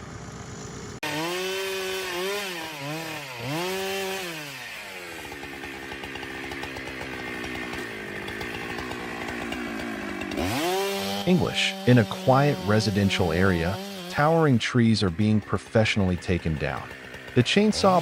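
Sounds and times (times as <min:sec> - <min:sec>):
chainsaw engine revving: 0:00.0 - 0:18.0.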